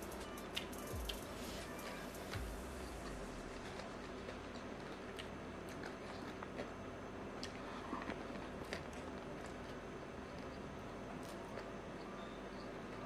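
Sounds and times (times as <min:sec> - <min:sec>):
faint room hum: 0:00.0 - 0:13.0
person chewing and eating: 0:00.0 - 0:13.0.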